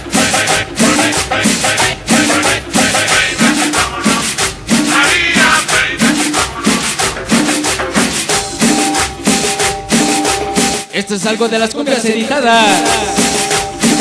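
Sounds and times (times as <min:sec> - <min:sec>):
shaker-like percussion: 0:00.0 - 0:10.9, 0:12.0 - 0:14.0
cumbia music with bass beat: 0:00.0 - 0:14.0.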